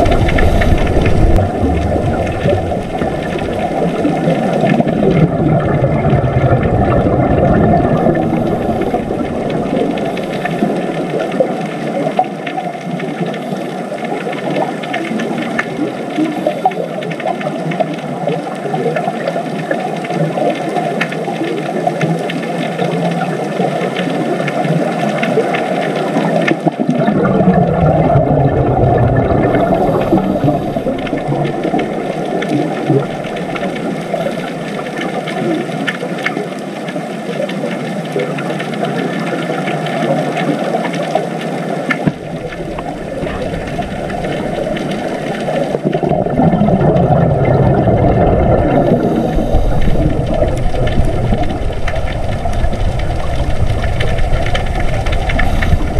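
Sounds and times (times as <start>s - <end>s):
underwater rushing rumble: 0.0s - 18.3s, 24.2s - 36.4s, 37.1s - 55.9s.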